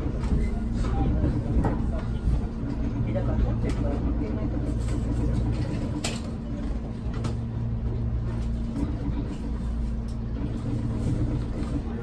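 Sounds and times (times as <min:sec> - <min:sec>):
train interior hum: 0:00.0 - 0:12.0.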